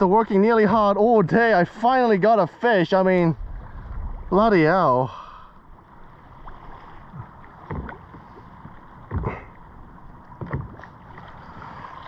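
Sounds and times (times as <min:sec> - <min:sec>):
steady wind: 0:00.0 - 0:12.0
water lapping against kayak hull: 0:00.0 - 0:12.0.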